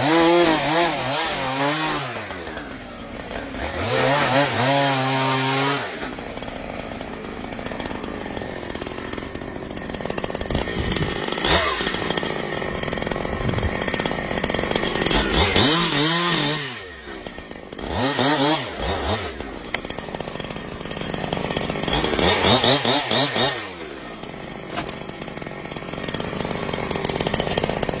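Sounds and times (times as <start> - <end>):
chainsaw cutting and revving: 0.0 - 28.0.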